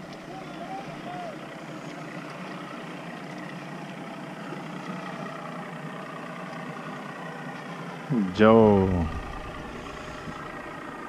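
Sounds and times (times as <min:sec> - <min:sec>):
outboard boat motors running: 0:00.0 - 0:11.0.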